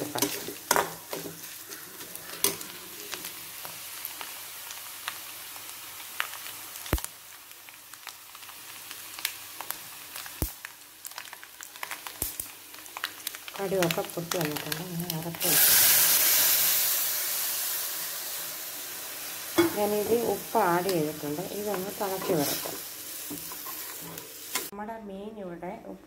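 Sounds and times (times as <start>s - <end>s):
onions sizzling in hot oil: 0.0s - 24.7s.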